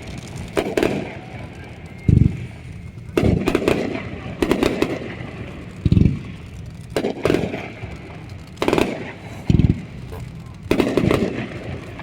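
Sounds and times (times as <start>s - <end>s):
deep firework boom: 0.0s - 12.0s
fireworks cracking and popping: 0.0s - 12.0s.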